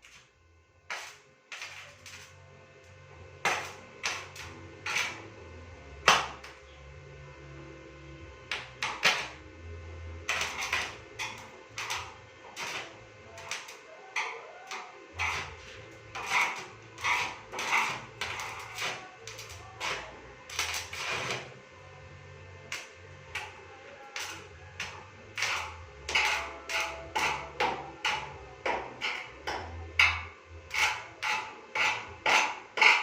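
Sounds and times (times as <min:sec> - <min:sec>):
faint low hum: 0:00.0 - 0:31.3.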